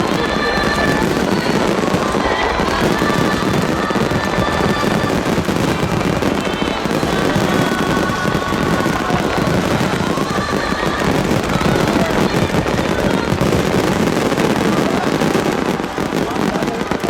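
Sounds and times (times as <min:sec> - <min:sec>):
fireworks bursting in a barrage: 0:00.0 - 0:17.0.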